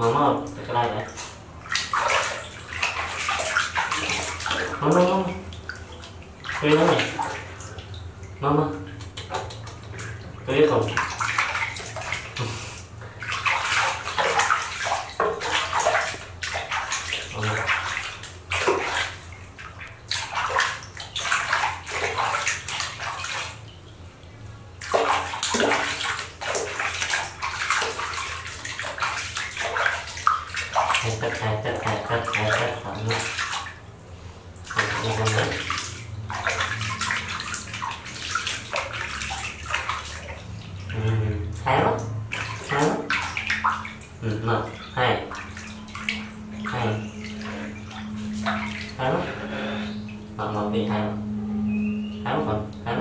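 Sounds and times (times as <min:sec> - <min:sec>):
water splashing in a plastic basin: 0:00.0 - 0:51.0.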